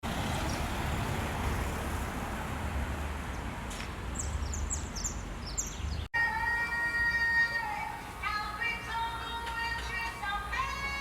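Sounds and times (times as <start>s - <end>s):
outdoor rumble and hiss: 0.1s - 11.0s.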